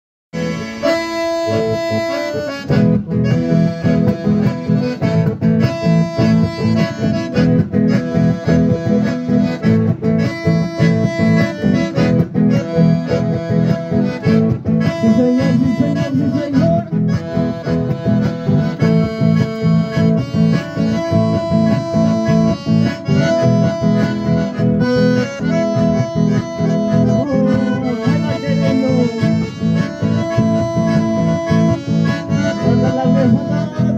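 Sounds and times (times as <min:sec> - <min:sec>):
acoustic guitar strumming: 0:00.4 - 0:33.9
button accordions playing chords: 0:00.4 - 0:33.9.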